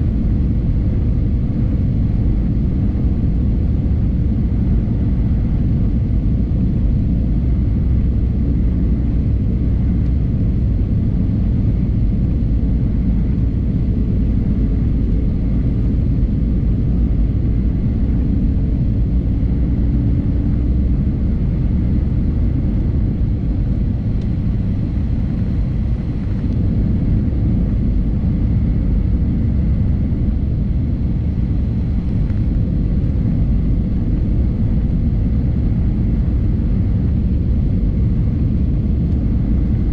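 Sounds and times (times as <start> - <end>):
airplane cabin engine rumble: 0.0 - 39.9
faint steady whine: 0.0 - 39.9.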